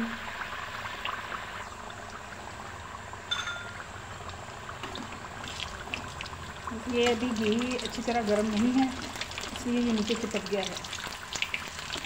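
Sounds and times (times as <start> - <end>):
batter sizzling in oil: 0.0 - 12.0.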